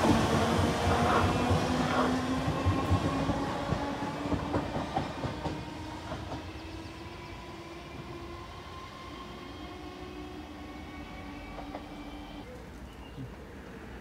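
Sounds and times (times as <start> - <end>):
train rumble: 0.0 - 12.4.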